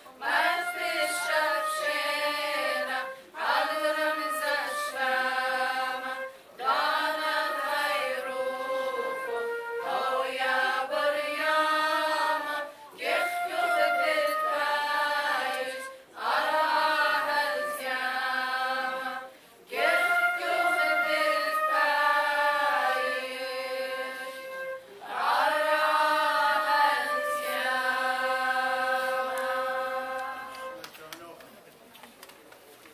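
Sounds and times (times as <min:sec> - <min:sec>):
women's choir singing a hymn: 0:00.0 - 0:30.8
flute: 0:00.0 - 0:31.3.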